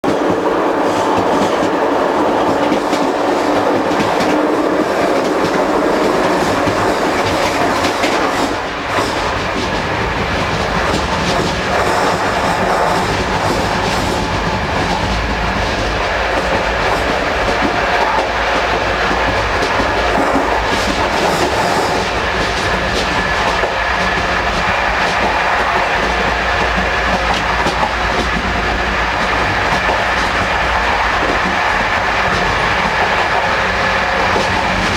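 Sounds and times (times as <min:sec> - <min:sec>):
moving train rumble: 0:00.0 - 0:34.9.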